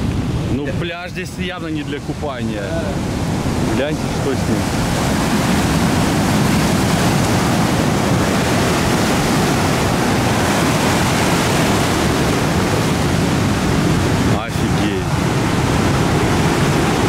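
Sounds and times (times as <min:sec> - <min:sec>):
ocean surf breaking on rocks: 0:00.0 - 0:17.0
wind on microphone: 0:00.0 - 0:17.0.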